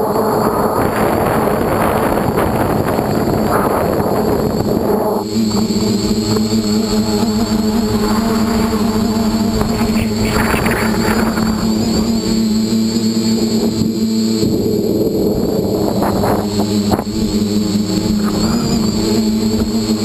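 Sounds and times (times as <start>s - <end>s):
drone propellers buzzing: 0.0s - 20.0s
rushing wind noise: 0.0s - 20.0s.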